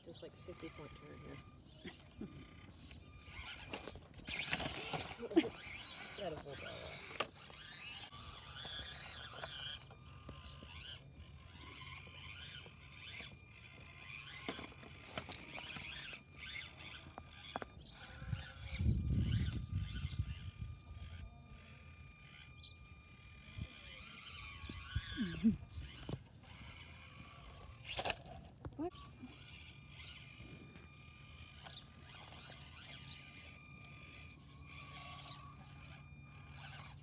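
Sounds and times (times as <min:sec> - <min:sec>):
small electric motor whining: 0:00.0 - 0:37.0
tyres clicking and scraping on rock: 0:00.1 - 0:37.0.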